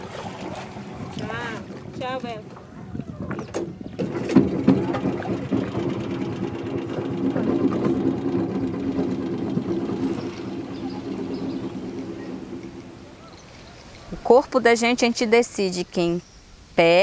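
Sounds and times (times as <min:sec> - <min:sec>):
boat engine pulsing hum: 0:00.0 - 0:14.8.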